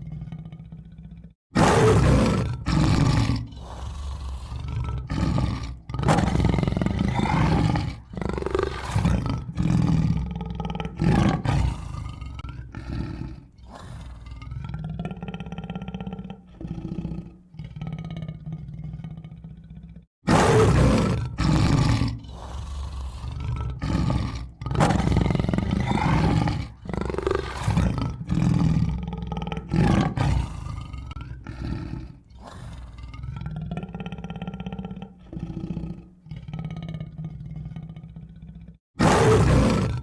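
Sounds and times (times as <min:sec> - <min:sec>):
tiger growling: 0:00.0 - 0:40.0
tiger roaring: 0:00.0 - 0:40.0.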